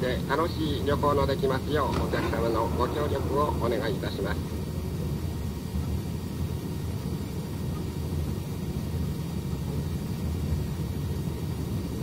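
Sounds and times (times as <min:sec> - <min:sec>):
train rumbling on rails: 0:00.0 - 0:11.7.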